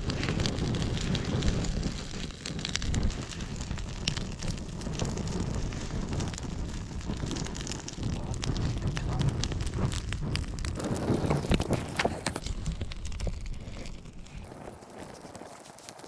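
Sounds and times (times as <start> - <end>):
campfire crackling and popping: 0.0 - 16.0
wind on microphone: 0.0 - 16.0.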